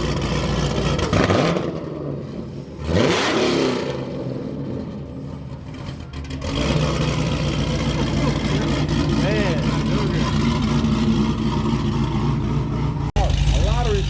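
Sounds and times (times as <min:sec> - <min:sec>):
car engine idling: 0:00.0 - 0:14.0
car engine revving: 0:00.0 - 0:14.0.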